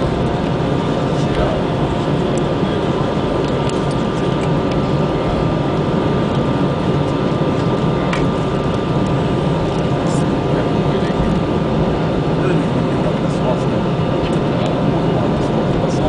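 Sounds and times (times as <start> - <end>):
faint steady whine: 0.0 - 16.0
jet engines and airflow hum: 0.0 - 16.0
wheels rumbling on taxiway: 0.0 - 16.0.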